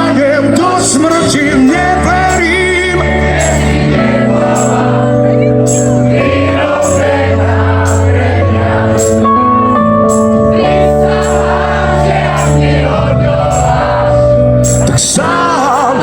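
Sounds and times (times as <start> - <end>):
crowd singing along: 0.0 - 16.0
live pop-rock band playing: 0.0 - 16.0.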